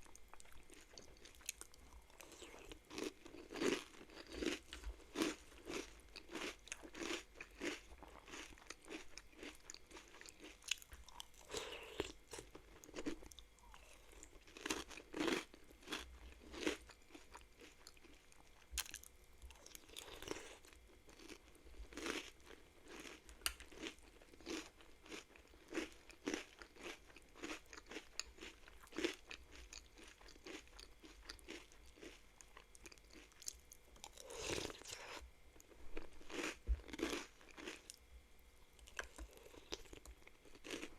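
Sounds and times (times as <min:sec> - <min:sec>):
crunching and chewing cereal: 0:00.0 - 0:38.0, 0:38.6 - 0:40.9.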